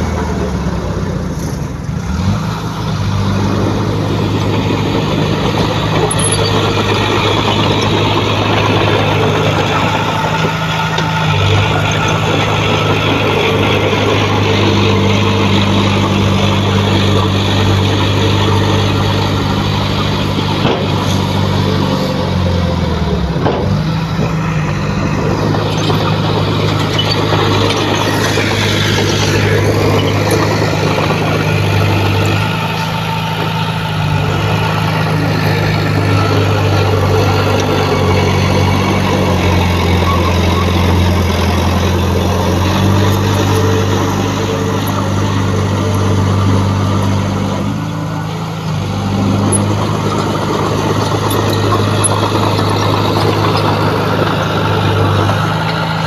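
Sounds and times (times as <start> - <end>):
heavy diesel machinery engine running: 0.0 - 56.0.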